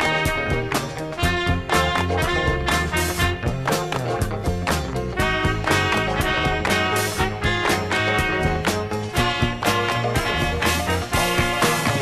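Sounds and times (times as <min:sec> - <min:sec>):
band playing instrumental: 0:00.0 - 0:12.0.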